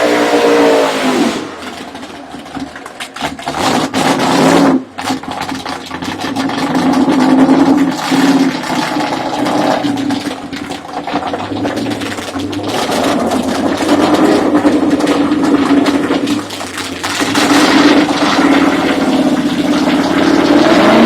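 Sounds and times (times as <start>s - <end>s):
drag racing car engine: 0.0s - 21.0s.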